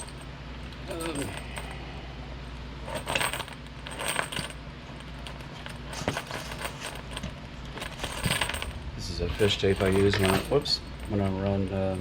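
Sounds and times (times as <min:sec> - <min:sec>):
metal chain clinking: 0:00.0 - 0:01.8, 0:02.8 - 0:12.0.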